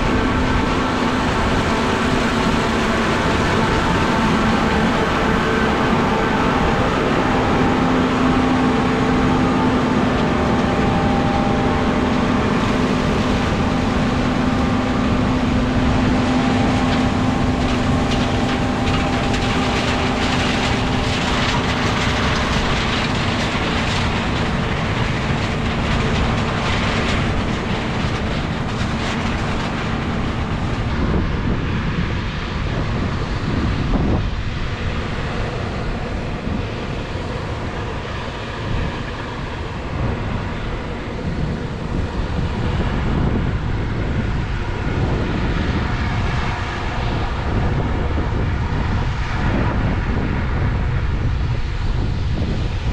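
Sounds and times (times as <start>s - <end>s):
diesel machinery rumbling: 0.0s - 52.9s.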